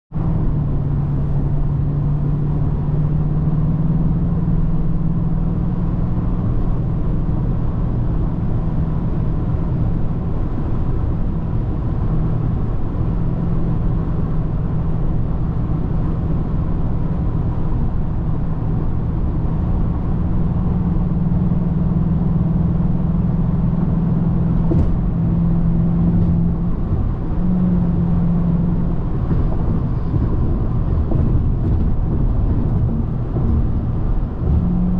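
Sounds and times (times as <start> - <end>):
car engine droning: 0.1 - 34.9
road noise: 0.1 - 34.9.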